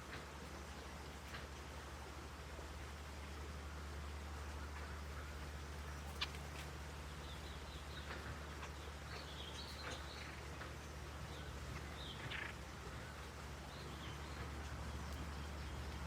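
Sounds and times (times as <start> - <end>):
low background rumble: 0.0 - 16.0
small birds chirping: 3.0 - 16.0.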